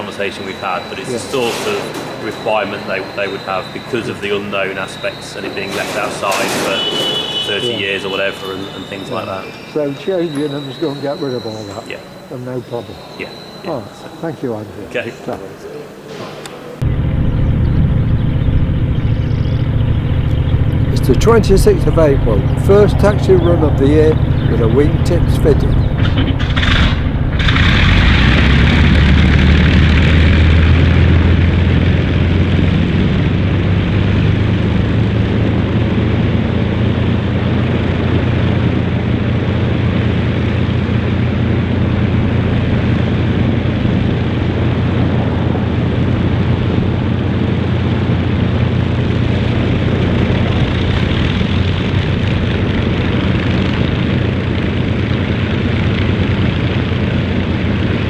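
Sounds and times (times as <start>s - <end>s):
aircraft piston engines droning: 0.0s - 58.0s.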